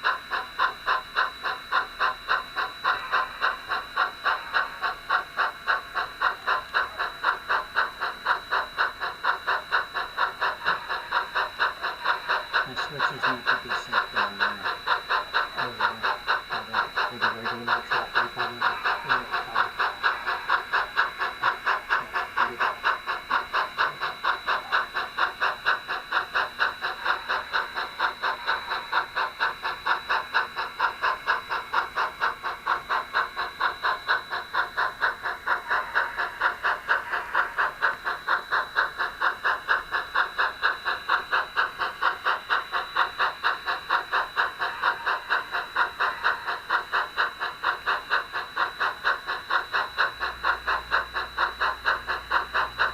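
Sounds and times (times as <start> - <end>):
model train motor whine: 0.0 - 52.9
model train rhythmic clatter: 0.0 - 52.9.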